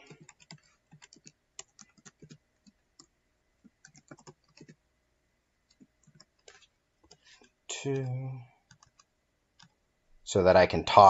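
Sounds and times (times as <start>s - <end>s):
faint keyboard typing: 0.0s - 4.8s, 5.6s - 9.8s.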